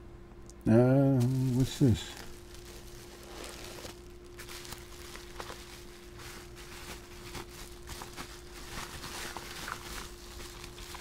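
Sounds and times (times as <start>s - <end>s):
faint electrical hum: 0.0s - 11.0s
bubble wrap rustling and crinkling: 1.1s - 11.0s.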